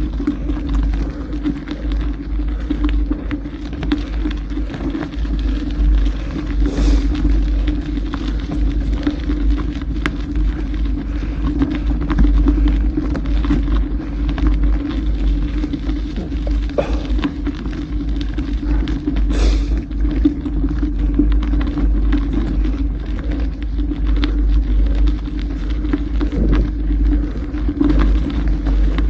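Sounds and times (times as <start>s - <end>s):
bike tyres crackling on gravel: 0.0s - 29.0s.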